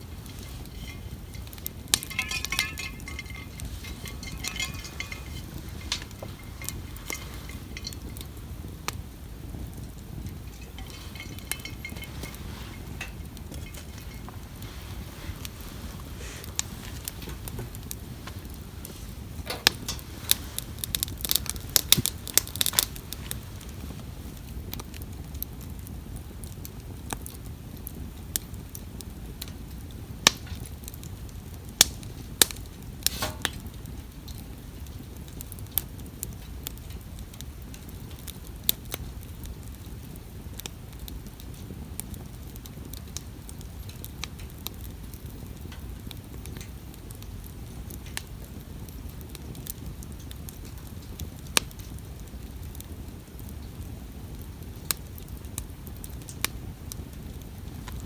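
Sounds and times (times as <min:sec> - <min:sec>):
campfire crackling with pops: 0:00.0 - 0:58.0
low background noise: 0:00.0 - 0:58.0.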